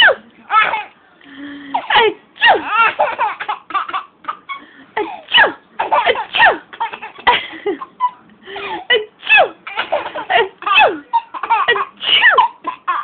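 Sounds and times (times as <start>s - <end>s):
baby laughing: 0.0s - 1.0s, 1.8s - 5.2s, 5.8s - 13.0s.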